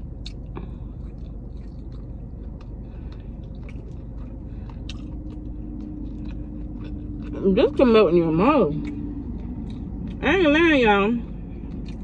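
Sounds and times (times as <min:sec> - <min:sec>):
close-up chewing: 0:00.0 - 0:10.2, 0:11.2 - 0:12.0
low car cabin hum: 0:00.0 - 0:12.0.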